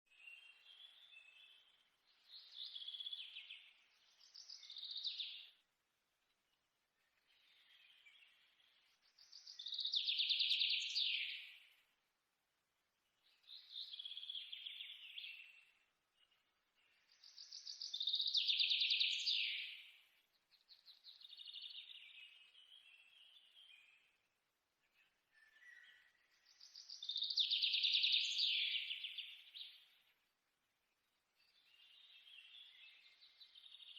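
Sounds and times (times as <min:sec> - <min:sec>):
bird singing trilled phrases: 0:00.1 - 0:05.6, 0:07.2 - 0:11.8, 0:13.2 - 0:24.2, 0:24.9 - 0:30.1, 0:31.4 - 0:33.9.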